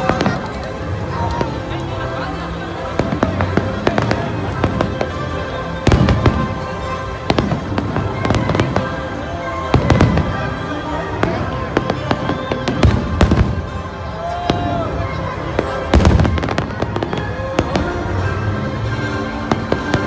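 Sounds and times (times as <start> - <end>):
firework bangs and crackles: 0.0 - 20.0.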